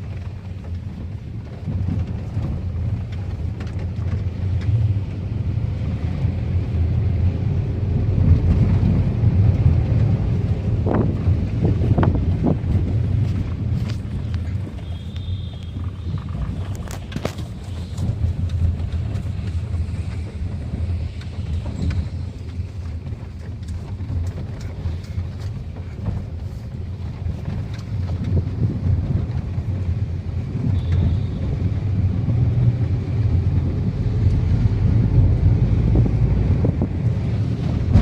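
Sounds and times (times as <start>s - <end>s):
car engine and tyres rumbling: 0.0s - 38.0s
wind buffeting microphone: 0.0s - 38.0s.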